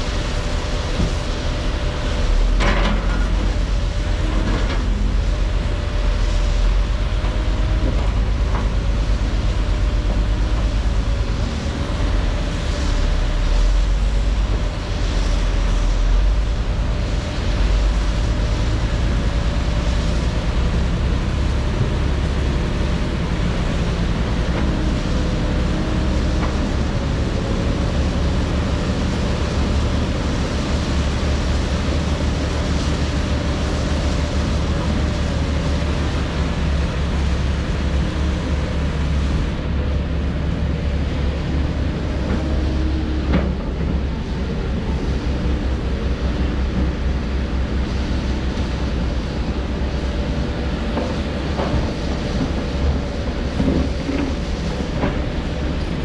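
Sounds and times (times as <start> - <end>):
diesel machinery engine hum: 0.0 - 56.0.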